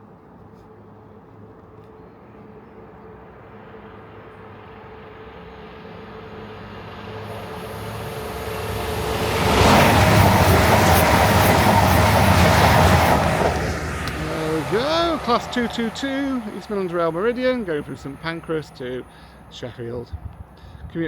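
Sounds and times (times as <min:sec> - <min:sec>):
diesel train approaching: 0:00.0 - 0:20.7.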